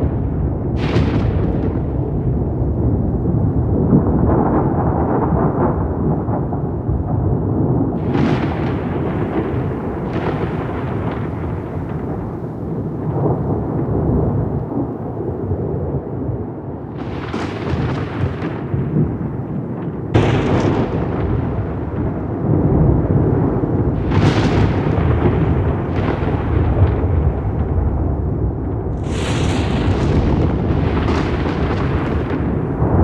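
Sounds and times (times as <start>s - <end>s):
rolling thunder rumble: 0.0s - 33.0s
thunder cracks: 0.0s - 33.0s.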